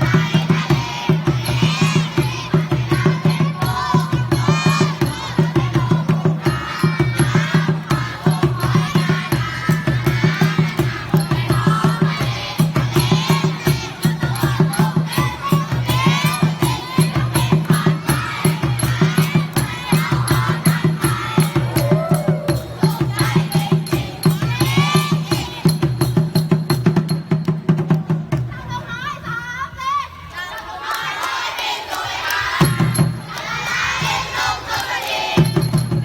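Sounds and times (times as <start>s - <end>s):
group of voices singing: 0.0s - 27.1s, 29.6s - 36.0s
music with fast beat: 0.0s - 28.5s, 31.9s - 36.0s.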